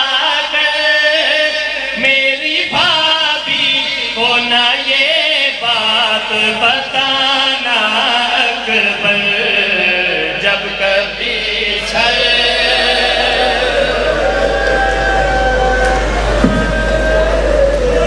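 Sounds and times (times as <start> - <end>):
men chanting over loudspeakers: 0.0 - 16.2.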